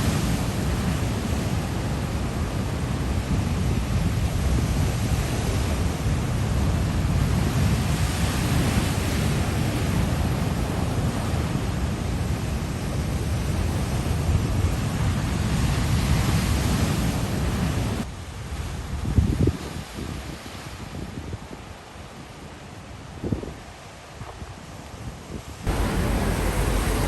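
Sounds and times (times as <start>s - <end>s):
wind buffeting microphone: 0.0s - 21.8s, 23.0s - 27.0s
rough sea rushing: 0.0s - 27.0s.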